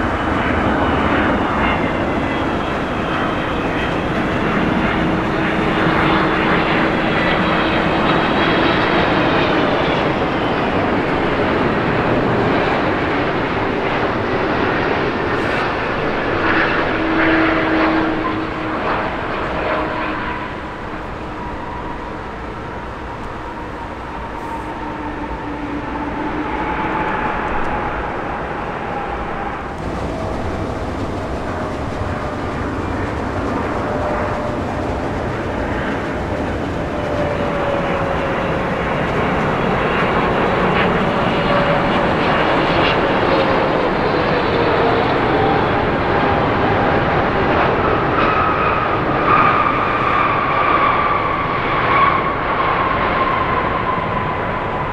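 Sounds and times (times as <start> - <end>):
jet engine whine falling in pitch: 0.0 - 54.9
jet engines roaring: 0.0 - 54.9.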